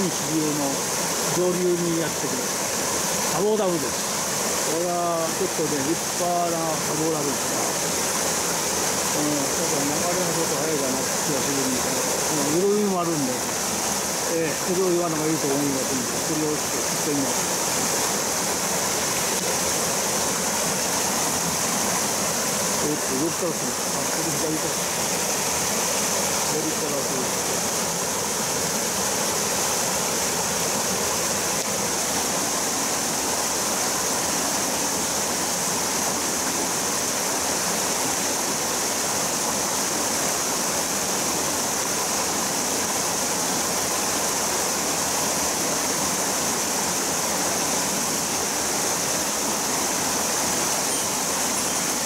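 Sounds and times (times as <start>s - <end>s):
water rushing over rocks: 0.0s - 52.0s.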